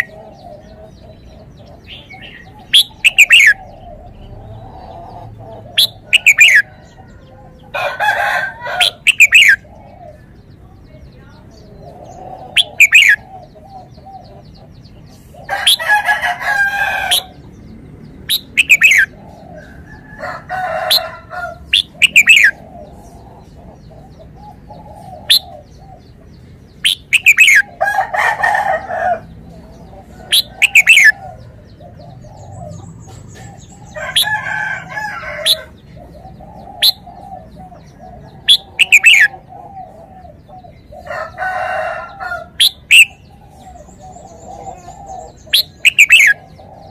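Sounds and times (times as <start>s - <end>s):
harsh low bird calls: 0.0s - 10.6s, 11.5s - 46.9s.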